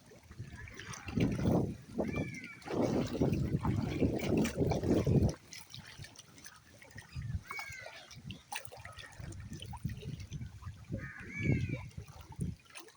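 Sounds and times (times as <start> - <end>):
water splashing: 0.0 - 12.9
water trickling: 0.0 - 12.9.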